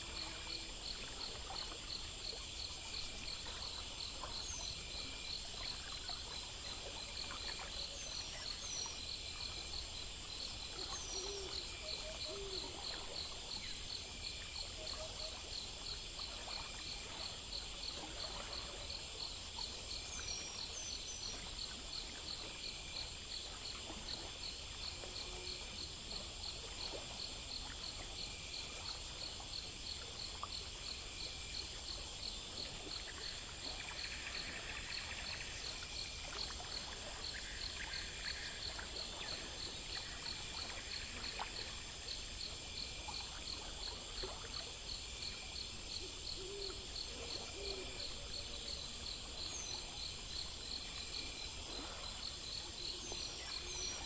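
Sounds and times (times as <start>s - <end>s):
constant high hiss: 0.0s - 54.0s
crickets chirping: 0.0s - 54.0s.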